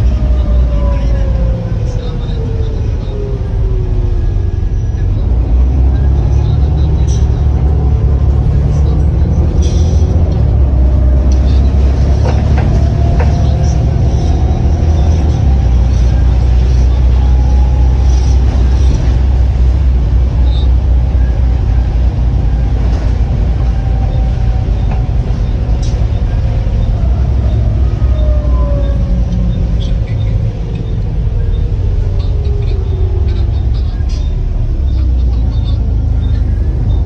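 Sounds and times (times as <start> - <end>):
diesel bus engine rumble: 0.0 - 37.0.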